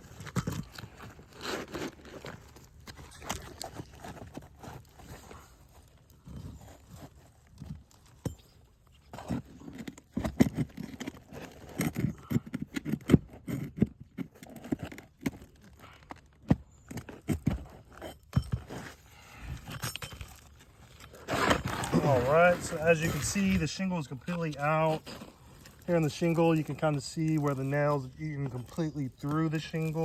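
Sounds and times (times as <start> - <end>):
roof shingle scraping and crunching: 0.0 - 30.0.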